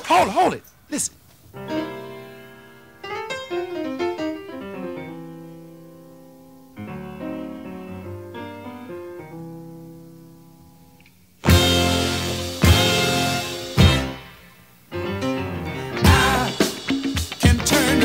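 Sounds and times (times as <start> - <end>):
keyboard music: 1.6 - 10.7, 11.4 - 18.0.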